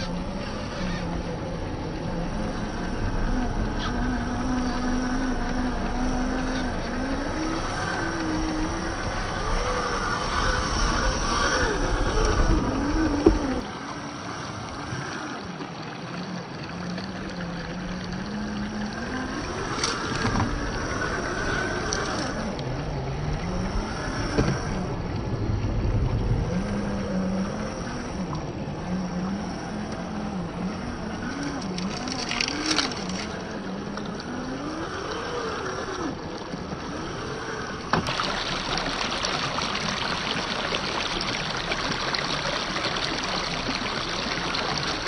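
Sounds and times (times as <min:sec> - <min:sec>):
electric motor and gears whining: 0:00.0 - 0:45.0.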